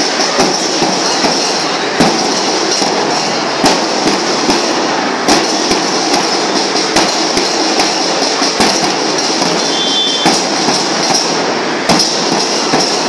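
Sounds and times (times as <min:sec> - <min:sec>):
drum roll rattling: 0:00.0 - 0:13.0
heavy drum strikes: 0:00.0 - 0:13.0.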